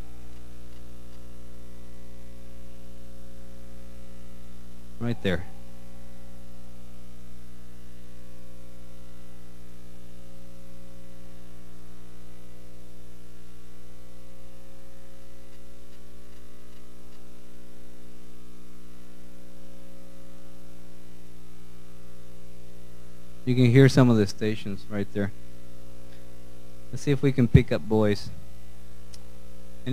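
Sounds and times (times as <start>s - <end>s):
mains hum: 0.0s - 29.9s
radio static hiss: 0.0s - 29.9s.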